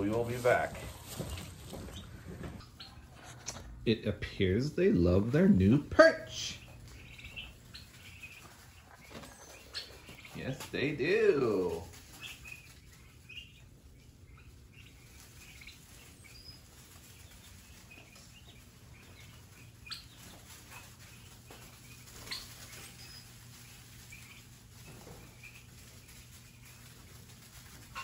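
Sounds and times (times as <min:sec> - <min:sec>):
low steady hum: 0:00.0 - 0:28.0
turkey poults peeping: 0:00.0 - 0:28.0.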